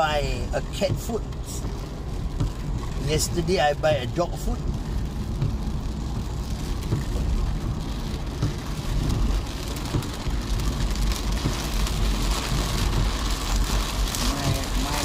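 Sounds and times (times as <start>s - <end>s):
engine and tyres rumbling: 0.0s - 15.0s
rain pattering on a car: 0.0s - 15.0s.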